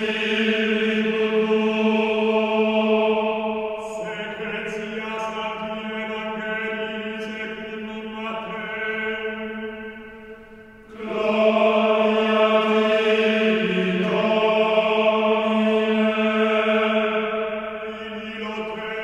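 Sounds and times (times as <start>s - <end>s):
chant-like vocal drone: 0.0s - 19.0s.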